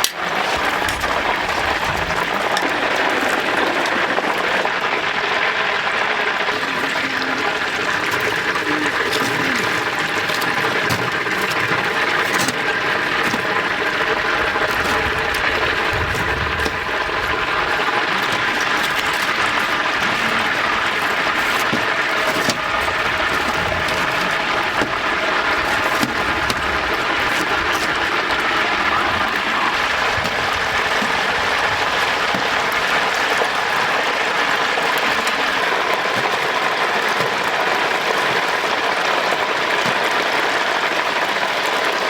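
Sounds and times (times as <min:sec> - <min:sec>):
chicken deep-frying in oil: 0:00.0 - 0:42.0.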